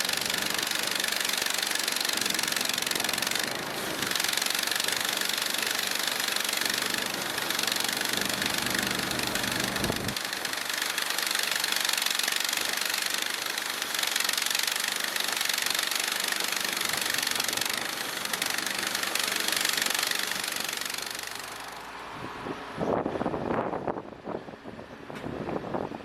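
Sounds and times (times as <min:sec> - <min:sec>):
small gas engine running: 0:00.0 - 0:26.0.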